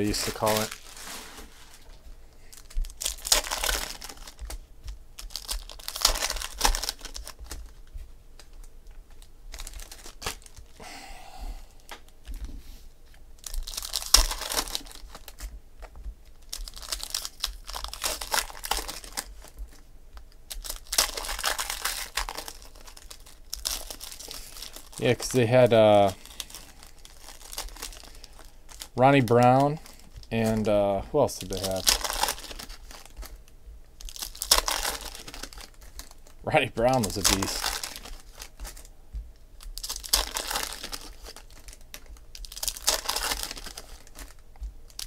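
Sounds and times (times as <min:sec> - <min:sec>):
foil packs crinkling and tearing: 0:00.0 - 0:10.9, 0:13.4 - 0:38.9, 0:39.5 - 0:45.0.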